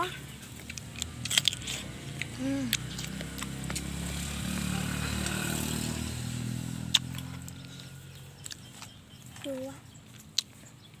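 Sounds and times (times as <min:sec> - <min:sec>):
vehicle engine passing: 0:00.0 - 0:10.8.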